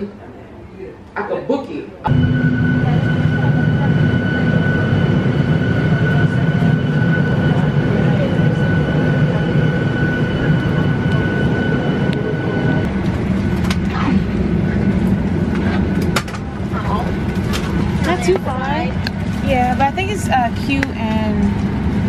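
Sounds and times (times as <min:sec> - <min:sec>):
high whine: 0:02.1 - 0:22.0.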